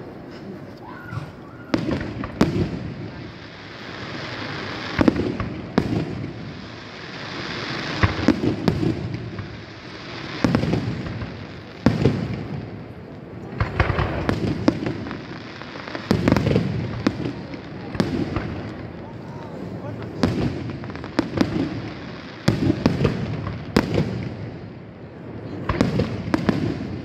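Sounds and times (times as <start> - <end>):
firework hiss: 0.0 - 27.0
firework bangs: 1.0 - 27.0.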